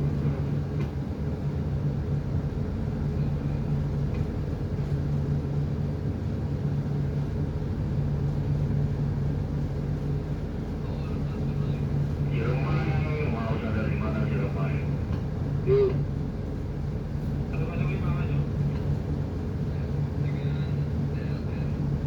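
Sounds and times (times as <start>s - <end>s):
large engine humming: 0.0s - 22.0s.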